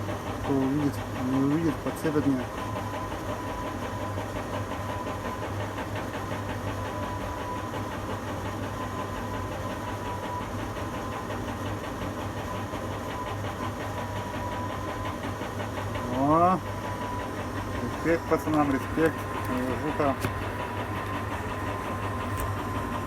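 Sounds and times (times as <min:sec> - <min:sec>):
crane machinery hum: 0:00.0 - 0:23.0.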